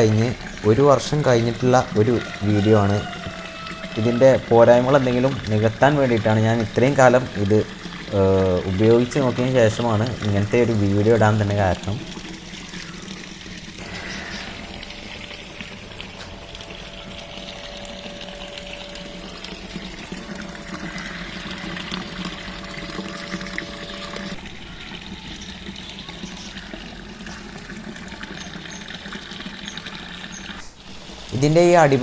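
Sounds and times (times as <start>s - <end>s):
waterfall pouring into pond: 0.0s - 32.0s.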